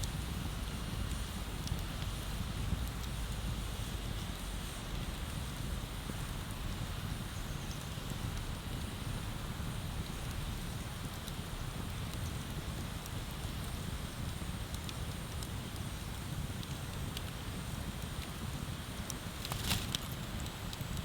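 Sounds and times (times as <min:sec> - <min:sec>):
bonfire crackling and popping: 0:00.0 - 0:21.0
fire low rumble: 0:00.0 - 0:21.0.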